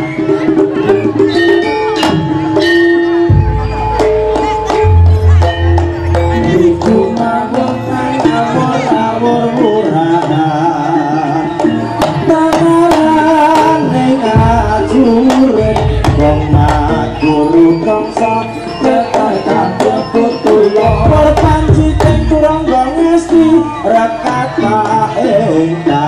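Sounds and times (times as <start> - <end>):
hand drums striking busy rhythm: 0.0 - 26.0
wavering melody line: 0.0 - 26.0.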